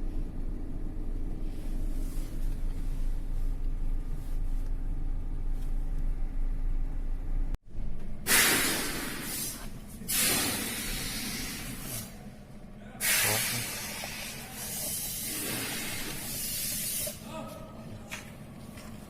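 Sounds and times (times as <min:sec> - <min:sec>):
van engine drone: 0:00.0 - 0:19.0.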